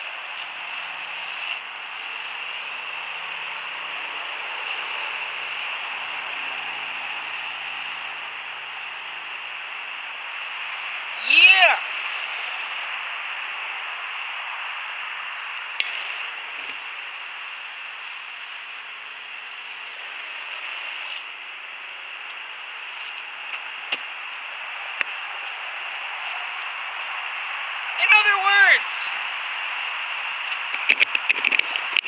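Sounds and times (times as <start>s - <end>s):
torch flame hissing: 0.0s - 28.0s.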